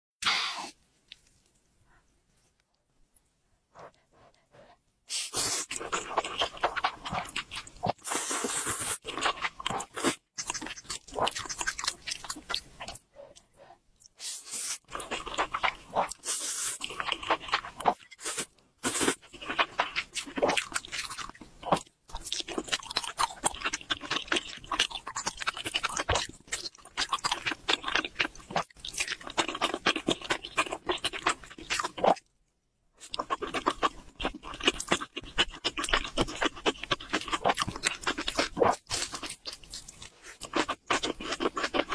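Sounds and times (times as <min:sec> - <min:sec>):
wet chewing with crunches: 0:05.6 - 0:14.2, 0:14.9 - 0:32.3, 0:33.0 - 0:41.9.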